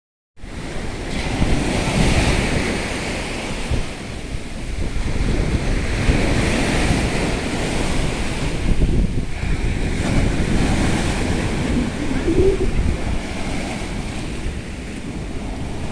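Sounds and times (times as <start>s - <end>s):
sea waves breaking on shore: 0.5s - 15.9s
wind buffeting microphone: 0.5s - 15.9s.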